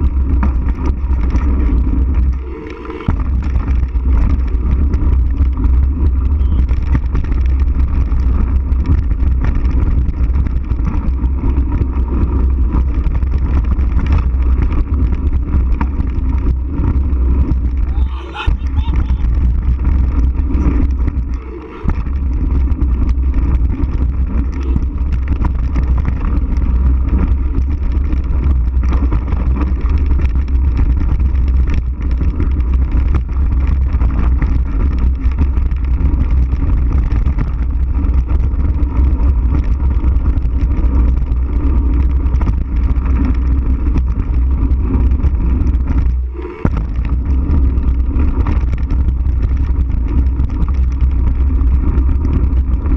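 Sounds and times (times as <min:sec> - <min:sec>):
bike tyres rolling over dirt: 0:00.0 - 0:52.9
wind buffeting microphone: 0:00.0 - 0:52.9.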